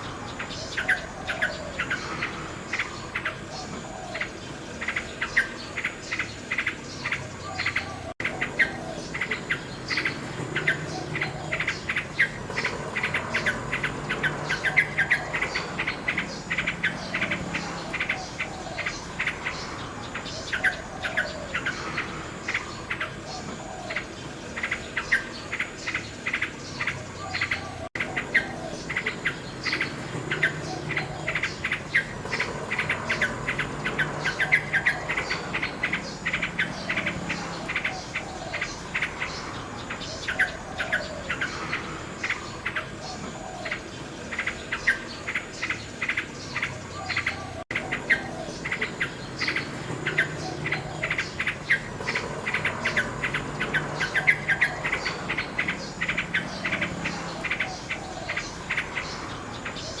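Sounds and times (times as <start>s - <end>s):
nightingale singing: 0.0s - 60.0s.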